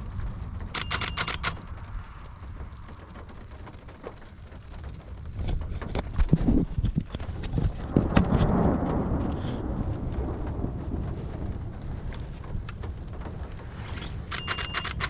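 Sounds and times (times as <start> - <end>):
steady rain: 0.0 - 15.0
thunder rolling: 0.0 - 15.0
wind hiss: 0.0 - 15.0.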